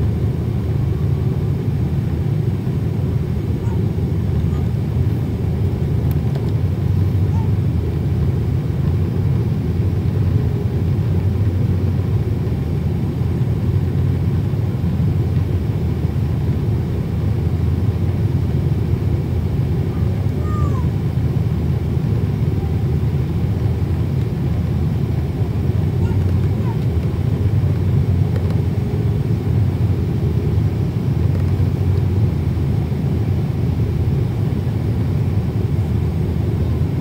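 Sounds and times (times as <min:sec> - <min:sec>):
jet airliner cabin noise: 0:00.0 - 0:37.0.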